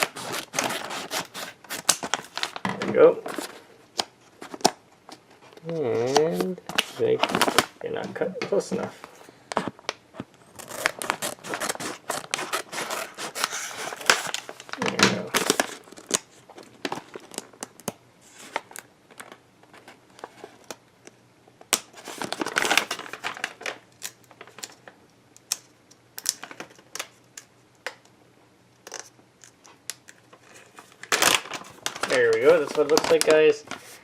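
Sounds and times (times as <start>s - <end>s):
plastic wrapper crinkling: 0.0s - 4.8s, 9.6s - 28.0s, 28.8s - 34.0s.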